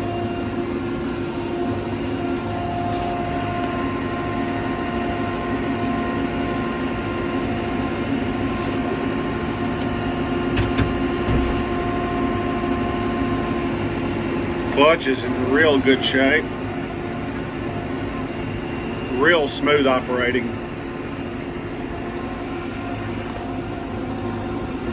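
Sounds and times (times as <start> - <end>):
tractor diesel engine droning: 0.0 - 24.9.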